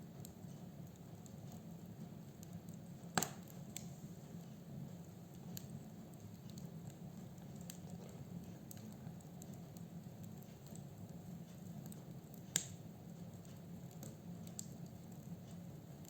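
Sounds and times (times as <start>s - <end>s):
wood crackling and popping: 0.0s - 16.0s.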